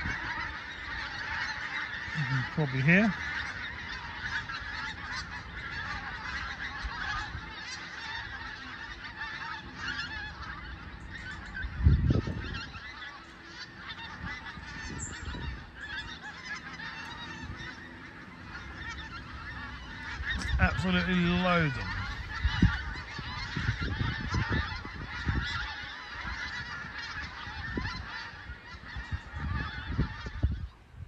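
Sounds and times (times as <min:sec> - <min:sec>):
flock of geese honking: 0:00.0 - 0:31.0.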